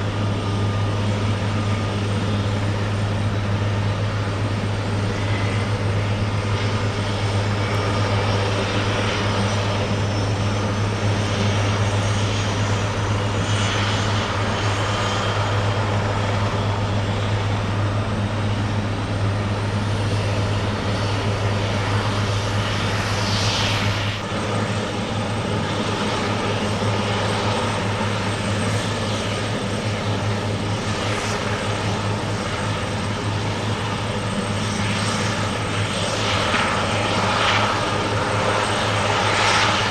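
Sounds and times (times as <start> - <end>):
helicopter rotor drone: 0.0 - 39.9
high turbine whine: 0.0 - 39.9.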